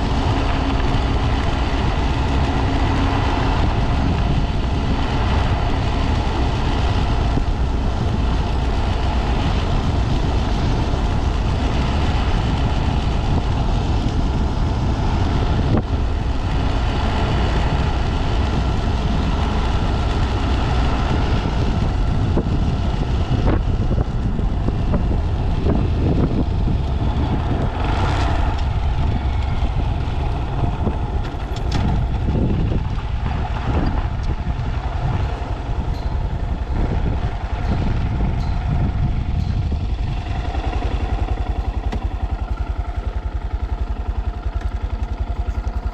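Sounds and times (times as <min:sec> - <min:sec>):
small motorcycle engine running: 0:00.0 - 0:45.9
wind rumble on microphone: 0:00.0 - 0:45.9.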